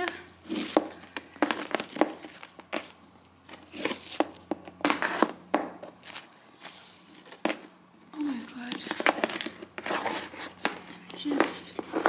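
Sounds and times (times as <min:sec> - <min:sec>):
packaging crinkling and rustling: 0:00.4 - 0:12.0.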